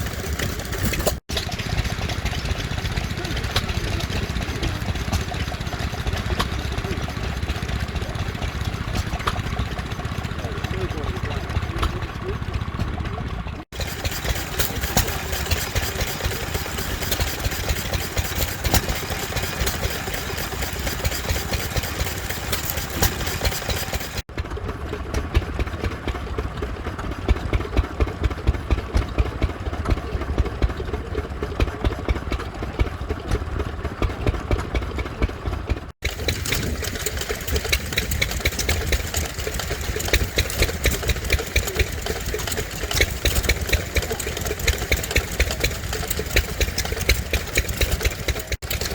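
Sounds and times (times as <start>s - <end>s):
stationary engines running: 0.0s - 48.9s.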